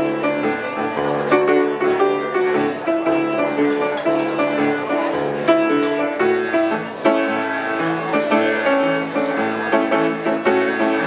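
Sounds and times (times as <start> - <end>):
instrumental tango music: 0.0 - 11.0.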